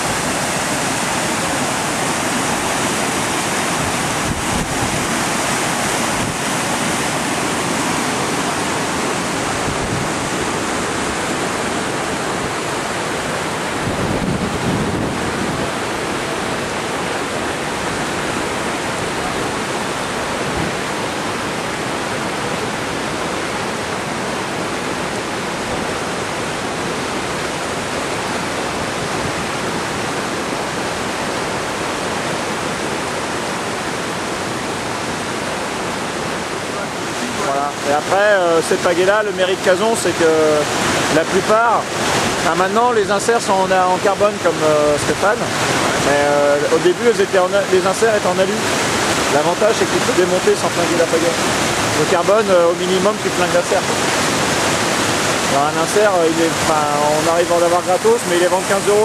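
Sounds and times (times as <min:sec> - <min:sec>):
whitewater roaring: 0:00.0 - 0:59.0.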